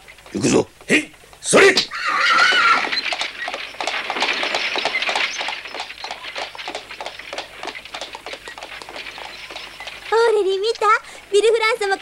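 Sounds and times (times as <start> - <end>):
horse hooves clopping: 0.0 - 12.0
carriage wheels rattling: 2.0 - 12.0.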